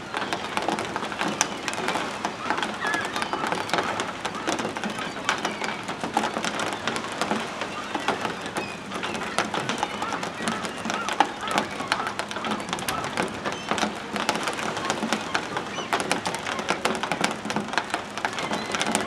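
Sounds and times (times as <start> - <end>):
gulls calling: 0.0 - 19.0
splashing in shallow water: 0.0 - 19.0
wings flapping: 0.0 - 19.0.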